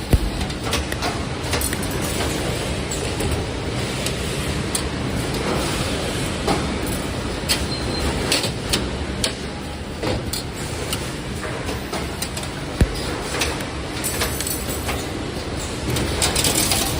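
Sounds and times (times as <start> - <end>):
wire bending machine running: 0.0 - 7.4, 10.6 - 16.9
sharp mechanical clicks and clanks: 0.0 - 16.9.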